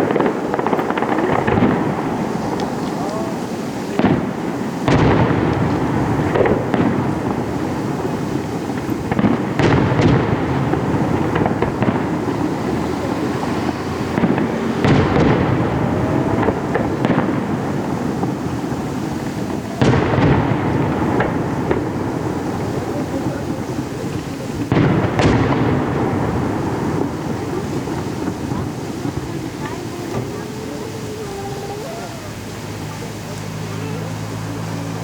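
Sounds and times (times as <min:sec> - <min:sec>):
firework shells booming: 0:00.0 - 0:35.0
fireworks crackling: 0:00.0 - 0:35.0.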